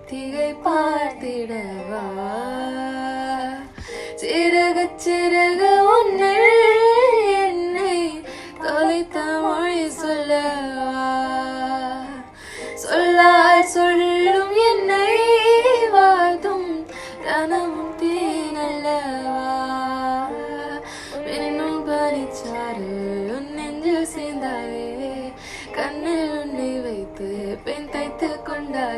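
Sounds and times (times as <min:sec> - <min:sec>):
woman singing with instruments: 0:00.0 - 0:28.9.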